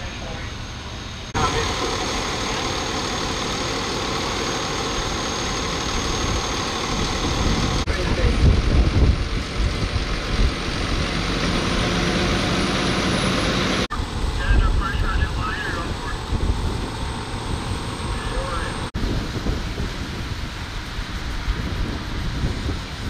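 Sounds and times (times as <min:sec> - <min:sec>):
fire engine pump running: 0:00.0 - 0:23.0.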